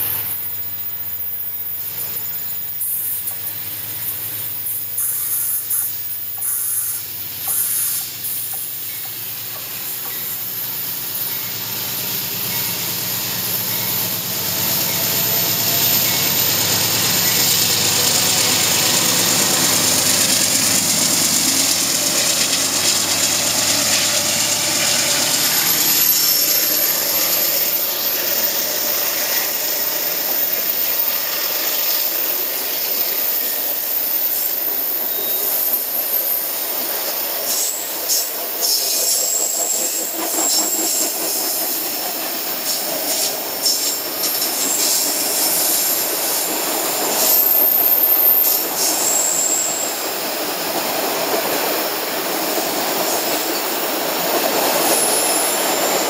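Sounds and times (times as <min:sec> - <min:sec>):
diesel locomotive engine: 0:00.0 - 0:56.0
train coaches rolling past: 0:00.0 - 0:56.0
wheels hissing on rails: 0:00.0 - 0:56.0.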